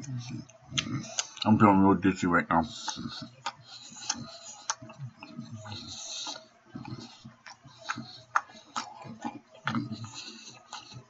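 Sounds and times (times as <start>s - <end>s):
man chewing food: 0.0s - 11.0s.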